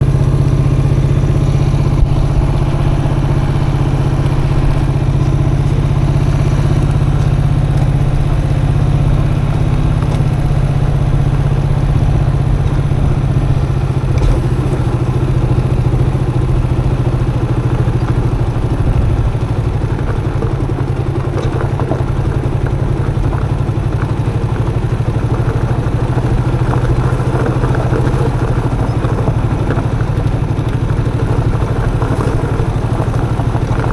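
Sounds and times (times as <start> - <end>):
motorcycle engine droning: 0.0 - 33.9.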